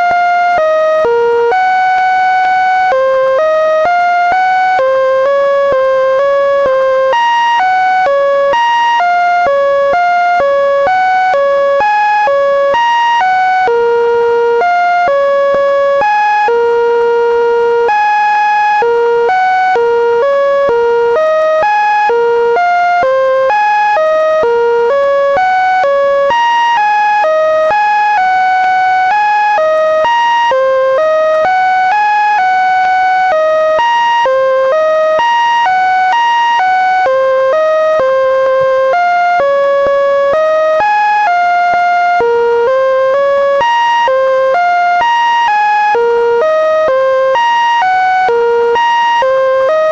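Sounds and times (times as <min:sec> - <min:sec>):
electronic tones stepping in pitch: 0:00.0 - 0:49.9.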